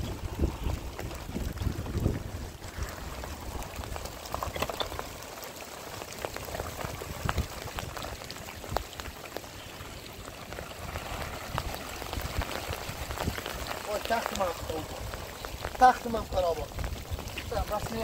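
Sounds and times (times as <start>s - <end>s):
rain falling: 0.0s - 18.0s
sharp raindrop hits: 0.0s - 18.0s.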